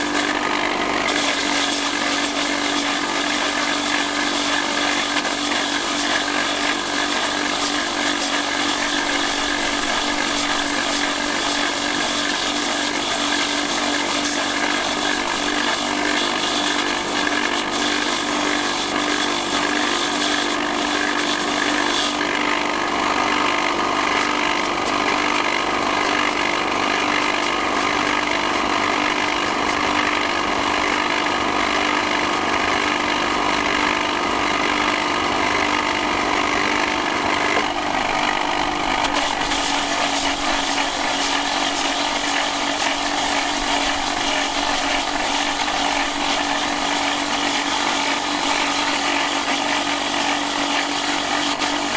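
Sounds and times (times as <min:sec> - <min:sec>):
grinding wheel motor hum: 0:00.0 - 0:20.2, 0:21.5 - 0:51.9.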